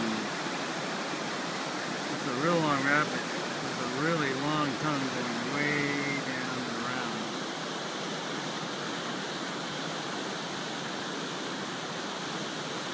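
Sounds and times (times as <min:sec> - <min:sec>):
river rushing through rapids: 0:00.0 - 0:12.9.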